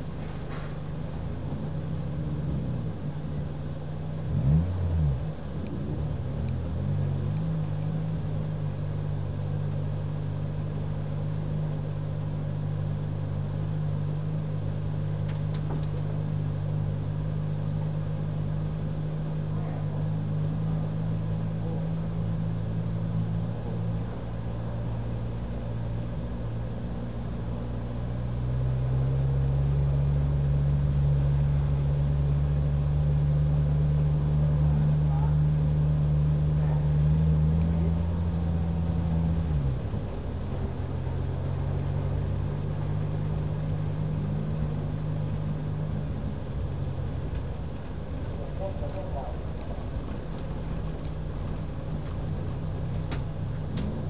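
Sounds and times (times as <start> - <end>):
car engine running: 0.0 - 54.0
engine revving: 0.0 - 54.0.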